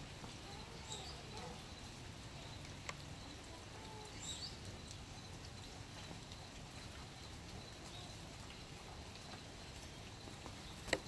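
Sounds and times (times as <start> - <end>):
light rain pattering: 0.0 - 11.0.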